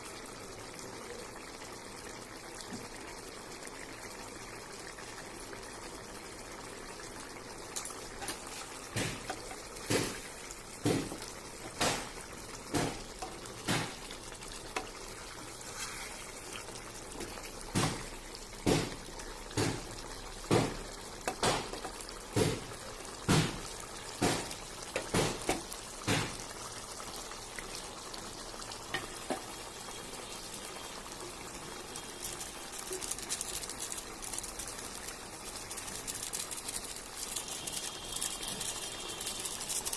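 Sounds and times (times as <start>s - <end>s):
curry bubbling in a pan: 0.0s - 39.9s.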